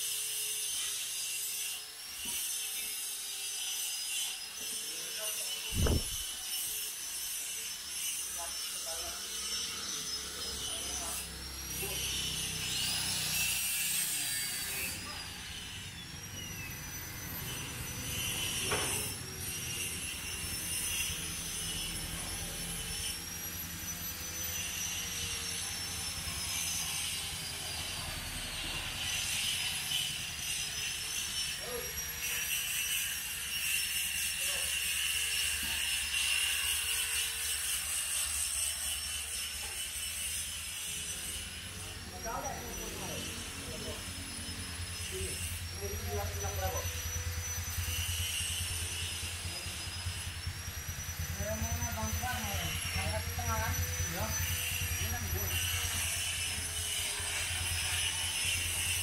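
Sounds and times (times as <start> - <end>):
angle grinder cutting metal: 0.0 - 59.0.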